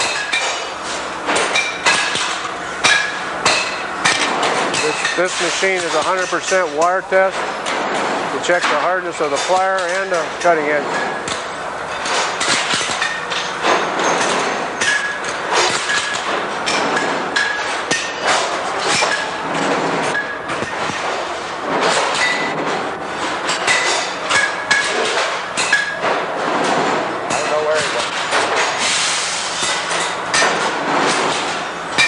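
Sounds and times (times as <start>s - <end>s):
machine clanking and clinking: 0.0s - 32.0s.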